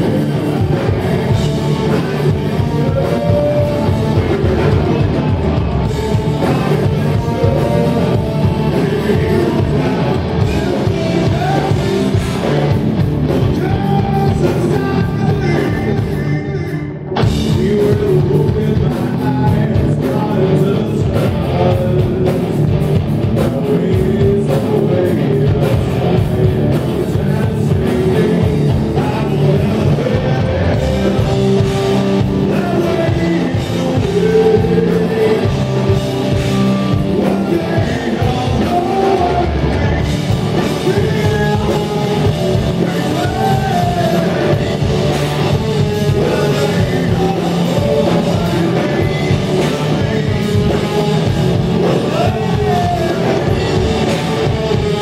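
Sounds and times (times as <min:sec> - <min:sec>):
live hard rock band: 0:00.0 - 0:55.0
person singing: 0:00.0 - 0:55.0.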